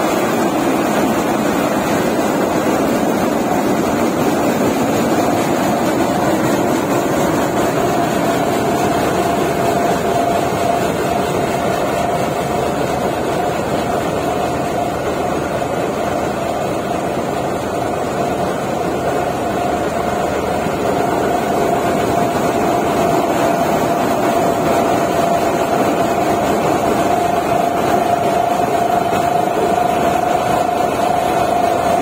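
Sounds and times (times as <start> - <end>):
combine harvester engine drone: 0.0 - 32.0
high machinery whine: 0.0 - 32.0.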